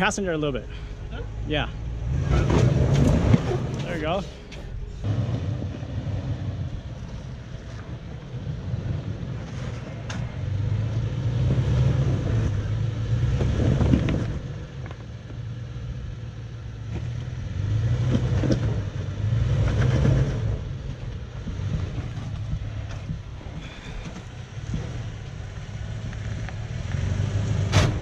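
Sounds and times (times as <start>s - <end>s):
vehicle engine at low speed: 0.0s - 28.0s.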